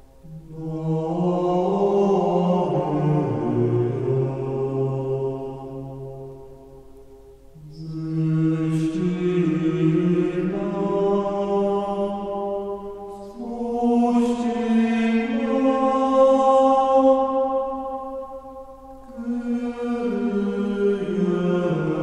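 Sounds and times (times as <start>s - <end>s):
slow chant-like choral music: 0.0s - 22.0s.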